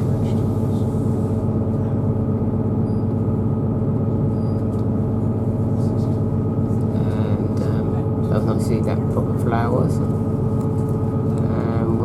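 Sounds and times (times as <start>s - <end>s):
hum of held tones: 0.0s - 12.0s.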